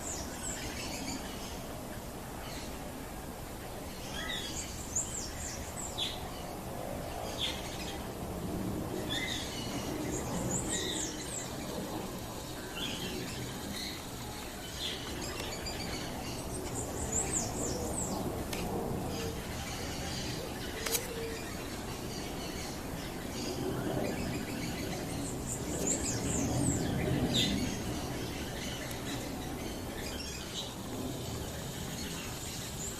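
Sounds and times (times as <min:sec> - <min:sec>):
birds chirping: 0:03.8 - 0:08.2, 0:08.8 - 0:32.9.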